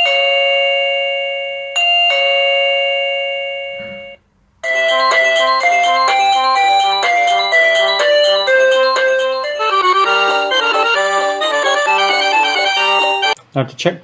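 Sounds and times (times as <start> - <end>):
doorbell chime ding-dong: 0.0 - 13.4
bell-like melody: 1.8 - 13.4.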